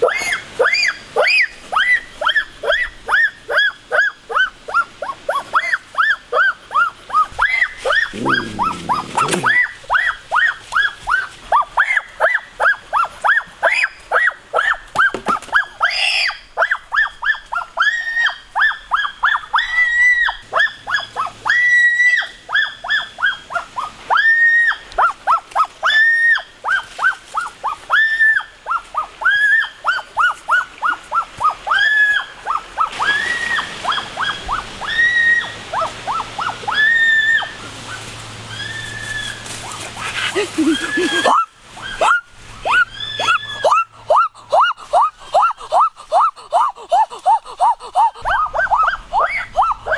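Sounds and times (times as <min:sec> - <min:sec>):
animal drawn-out cries: 0:00.0 - 0:37.6, 0:38.4 - 0:49.9
animal yelping: 0:00.0 - 0:49.9.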